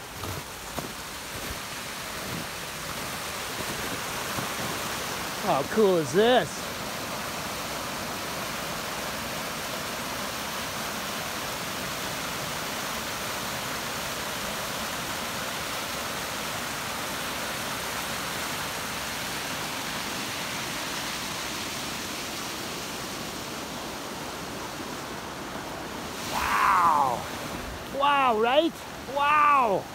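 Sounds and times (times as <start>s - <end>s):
water rushing over rapids: 0.0s - 29.9s.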